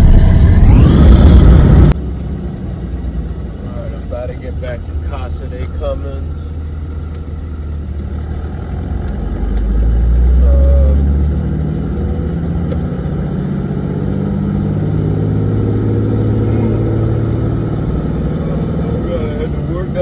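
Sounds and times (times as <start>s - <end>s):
diesel truck engine accelerating: 0.0s - 20.0s.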